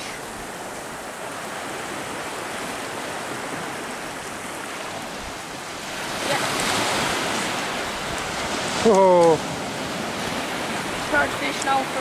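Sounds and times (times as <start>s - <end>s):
surf waves washing on sand: 0.0s - 12.0s.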